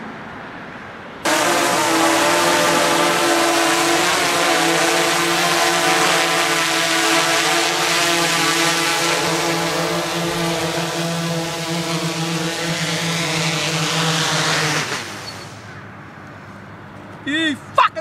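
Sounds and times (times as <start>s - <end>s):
drone propellers buzzing: 1.2s - 15.8s.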